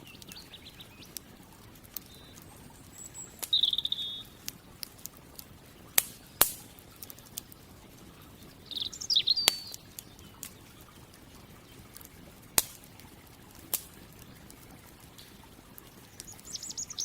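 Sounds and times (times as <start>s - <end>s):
songbird chirping: 0.0s - 13.4s, 14.0s - 17.0s
campfire crackling: 0.0s - 17.0s
fire popping: 0.0s - 17.0s.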